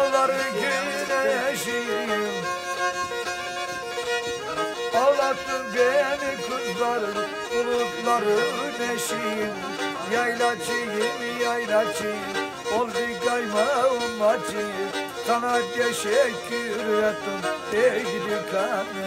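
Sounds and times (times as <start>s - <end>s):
man singing: 0.0s - 2.6s, 4.9s - 19.0s
bowed fiddle folk melody: 0.0s - 19.0s.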